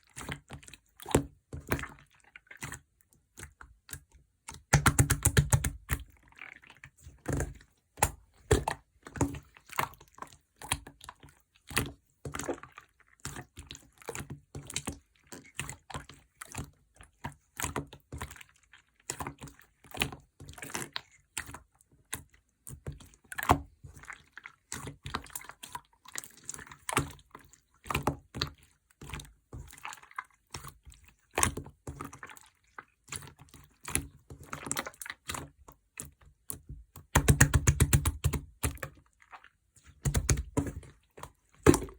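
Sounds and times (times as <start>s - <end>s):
slime squishing: 0.0s - 41.9s.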